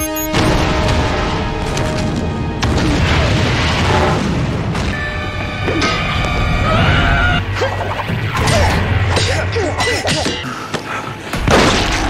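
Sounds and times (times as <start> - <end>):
dramatic score music: 0.0 - 12.0.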